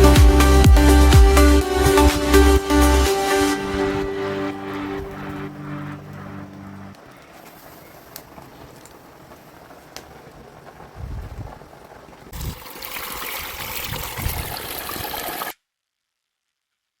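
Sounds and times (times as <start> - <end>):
low bumps: 0.0 - 14.7
running water trickling: 1.6 - 15.5.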